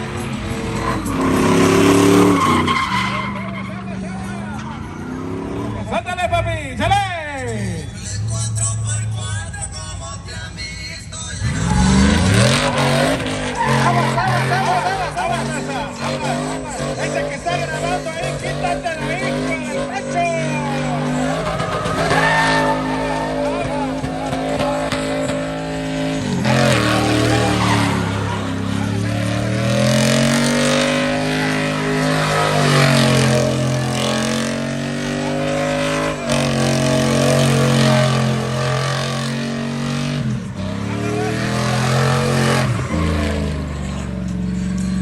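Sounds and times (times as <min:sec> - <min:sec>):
truck engine revving hard: 0:00.0 - 0:06.8, 0:11.3 - 0:45.0
spinning tyres: 0:00.0 - 0:06.9, 0:07.8 - 0:45.0.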